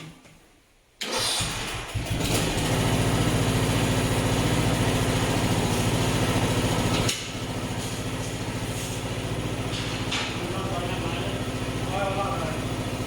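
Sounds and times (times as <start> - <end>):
lawn mower engine running: 1.0 - 13.0.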